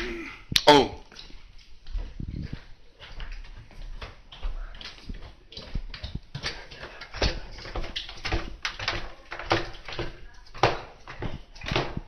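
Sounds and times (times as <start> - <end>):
footsteps going down stairs: 1.0 - 12.0.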